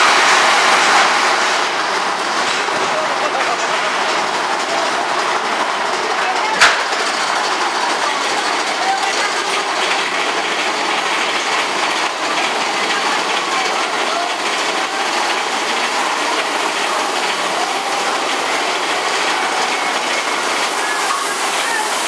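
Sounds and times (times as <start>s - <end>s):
roller coaster train running: 0.0s - 22.0s.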